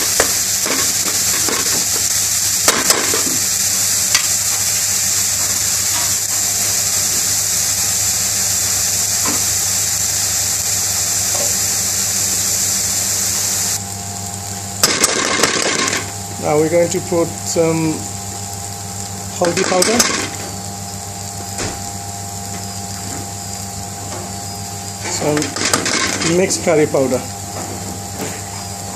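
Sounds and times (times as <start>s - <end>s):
vegetables sizzling in oil: 0.0s - 28.9s.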